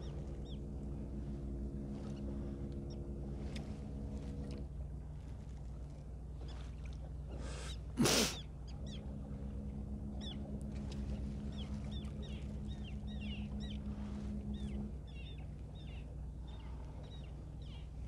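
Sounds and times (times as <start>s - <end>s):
droning tone: 0.0s - 6.6s, 8.5s - 18.0s
boat engine hum: 0.0s - 18.0s.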